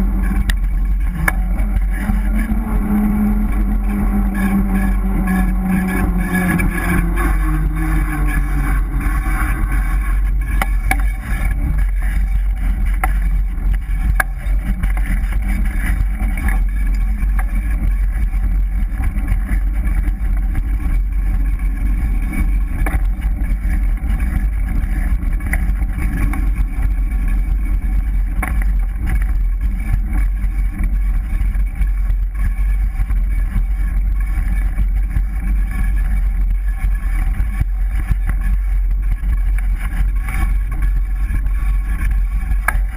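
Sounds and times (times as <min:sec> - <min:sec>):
ground and wind rumble: 0:00.0 - 0:42.9.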